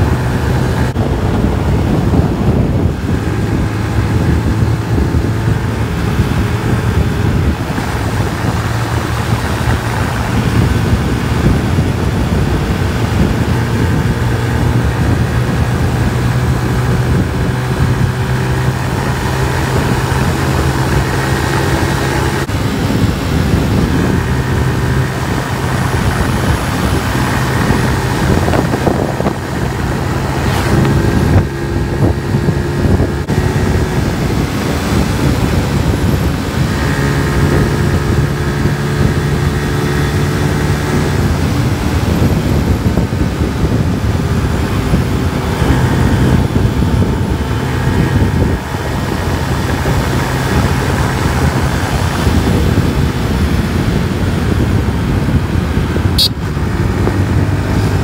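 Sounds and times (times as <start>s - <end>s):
dense rushing noise: 0.0s - 58.0s
motorcycle engine running: 0.0s - 58.0s.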